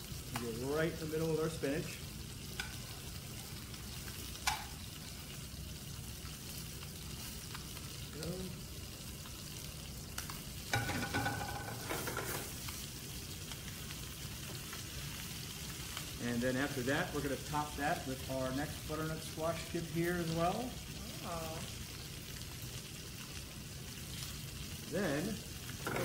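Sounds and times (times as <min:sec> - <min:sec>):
fish sizzling in a hot pan: 0:00.0 - 0:26.0.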